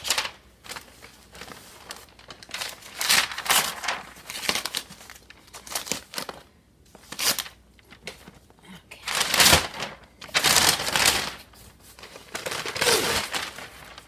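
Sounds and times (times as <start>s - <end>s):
packing paper tearing and rustling: 0.0s - 14.0s.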